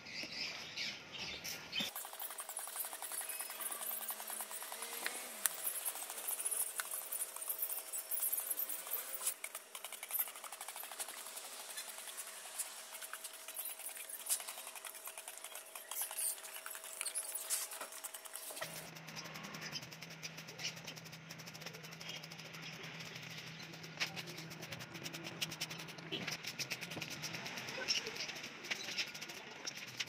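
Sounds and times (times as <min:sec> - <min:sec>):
sprayer nozzle hissing: 0:01.9 - 0:29.9.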